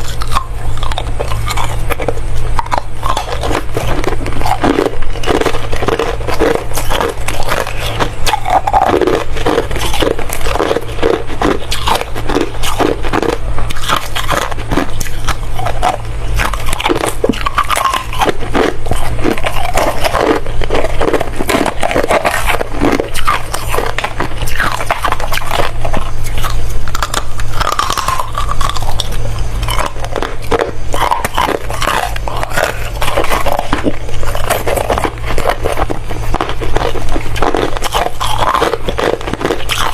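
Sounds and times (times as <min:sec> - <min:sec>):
ice crunching being chewed: 0:00.0 - 0:39.9
steady low hum: 0:00.0 - 0:39.9.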